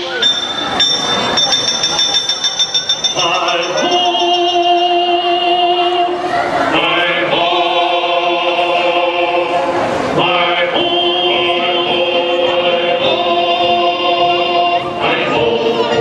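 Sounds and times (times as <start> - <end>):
choir singing held notes: 0.0 - 16.0.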